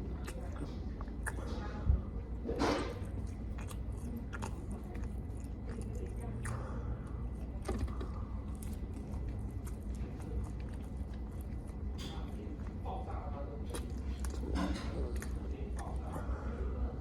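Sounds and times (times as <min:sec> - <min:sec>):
person chewing and biting food: 0:00.0 - 0:01.5, 0:02.9 - 0:12.8, 0:13.6 - 0:16.2
steady low hum: 0:00.0 - 0:17.0.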